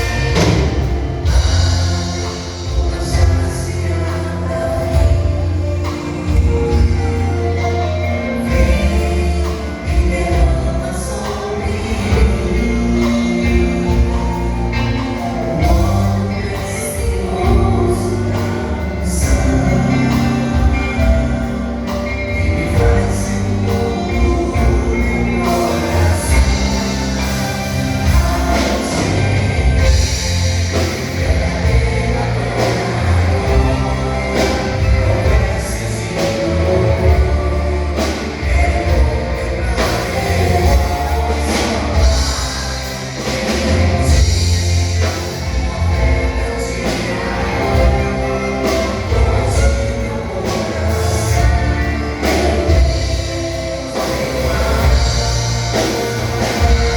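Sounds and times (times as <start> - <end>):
bass line: 0.0 - 56.9
drums: 0.0 - 56.9
worship singers: 0.0 - 56.9.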